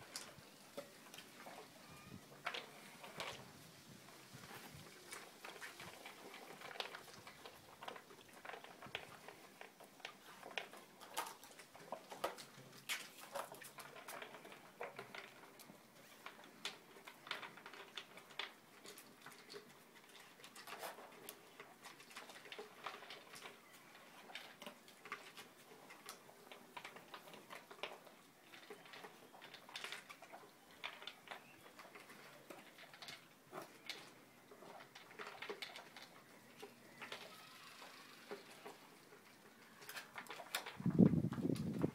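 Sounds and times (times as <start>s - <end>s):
food rattling in plastic bowls: 0.0s - 41.9s.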